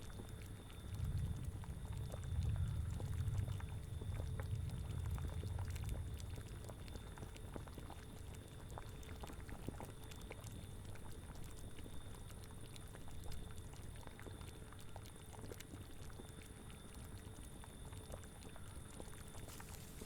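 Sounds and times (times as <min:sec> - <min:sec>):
liquid boiling and bubbling: 0:00.0 - 0:20.0.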